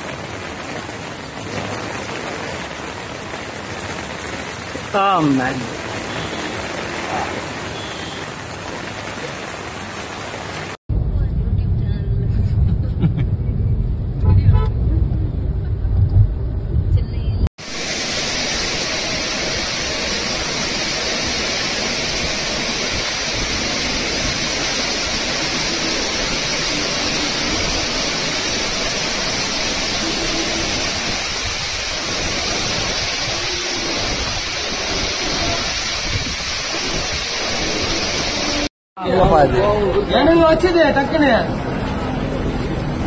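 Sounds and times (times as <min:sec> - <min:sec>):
heavy rain pouring: 0:00.0 - 0:12.8, 0:17.6 - 0:43.0.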